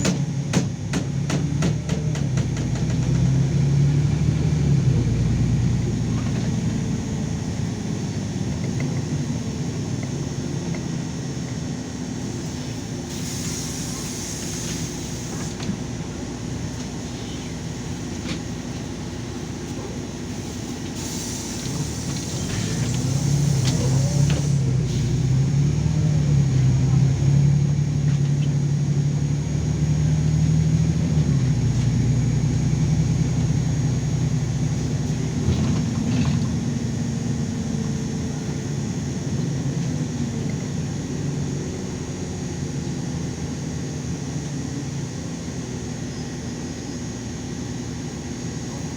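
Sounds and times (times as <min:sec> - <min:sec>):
bus engine hum: 0:00.0 - 0:48.9.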